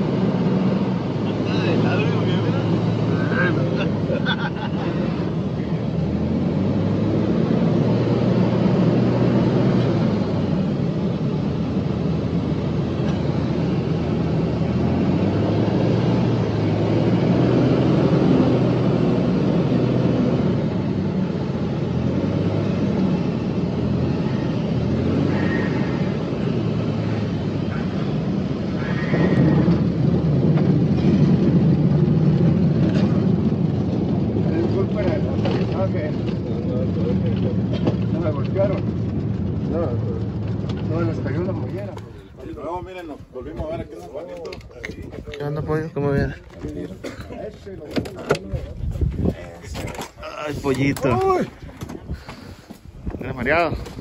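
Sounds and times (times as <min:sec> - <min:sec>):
propeller plane engine droning: 0:00.0 - 0:54.0
wheels rolling on dirt strip: 0:00.0 - 0:54.0.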